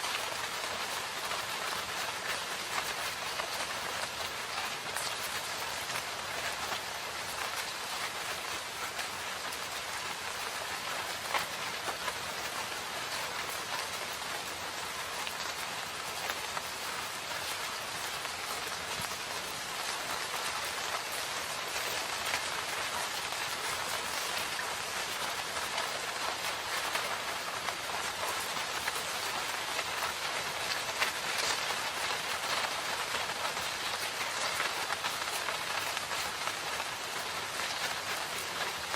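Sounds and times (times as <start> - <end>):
drops pattering on leaves: 0.0 - 38.9
steady rain hiss: 0.0 - 38.9.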